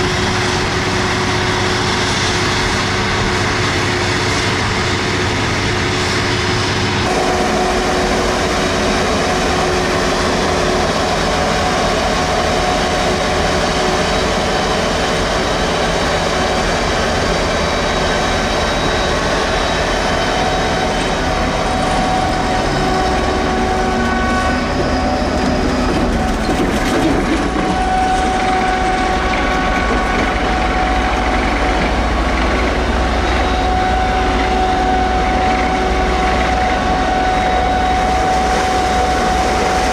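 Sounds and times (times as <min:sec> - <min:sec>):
heavy machine engines droning: 0:00.0 - 0:39.9.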